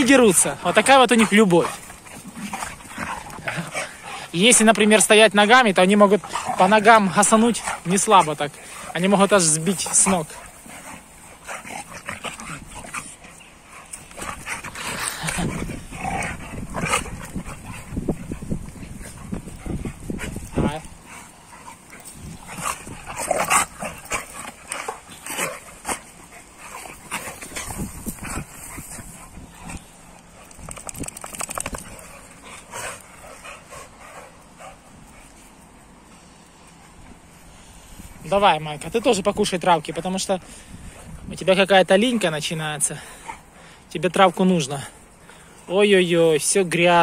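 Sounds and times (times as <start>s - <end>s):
dogs play-fighting: 0.0s - 45.7s.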